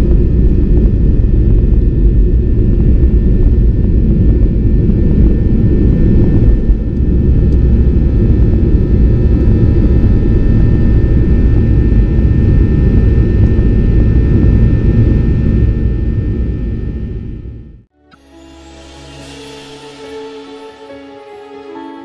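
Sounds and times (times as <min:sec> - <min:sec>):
jet engine rumble in cabin: 0:00.0 - 0:17.9
faint steady whine: 0:00.0 - 0:20.6.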